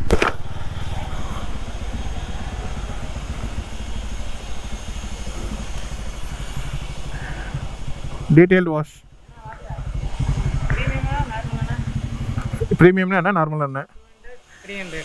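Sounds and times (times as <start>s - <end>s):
motorcycle engine at low revs: 0.0s - 13.3s.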